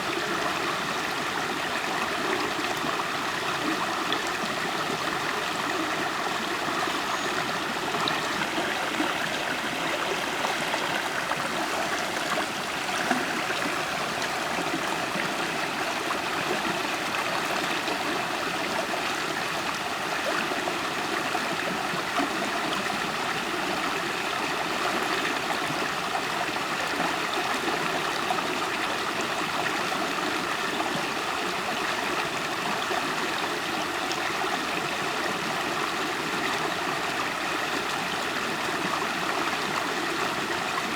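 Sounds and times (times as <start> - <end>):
river flowing over rocks: 0.1 - 40.9.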